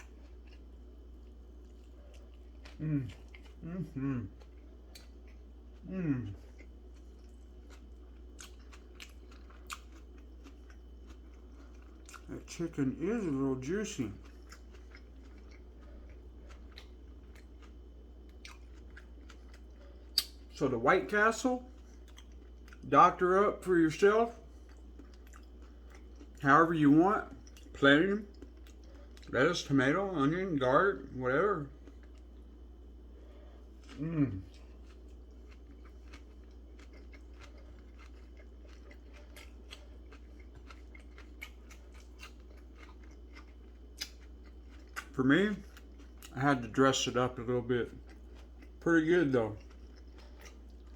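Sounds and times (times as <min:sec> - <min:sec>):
faint chewing: 0:00.0 - 0:22.9, 0:24.2 - 0:29.3, 0:31.6 - 0:50.9
steady low hum: 0:00.0 - 0:50.9.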